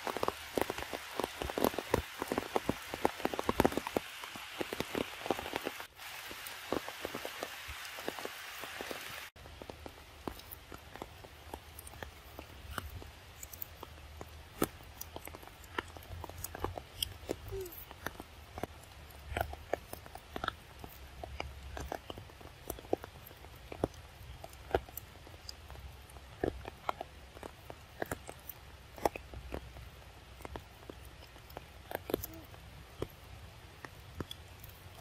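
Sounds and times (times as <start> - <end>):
monkeys chewing cucumber: 0.0 - 35.0.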